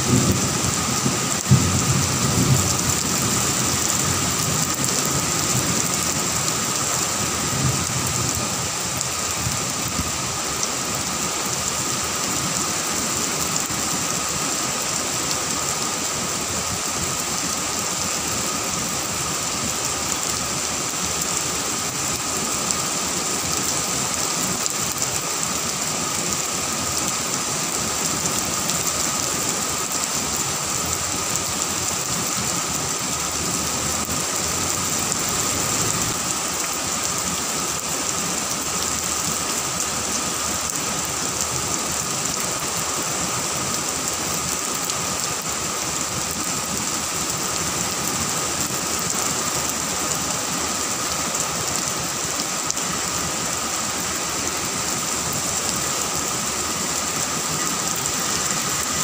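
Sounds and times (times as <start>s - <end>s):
heavy rain on trees and grass: 0.0s - 59.0s.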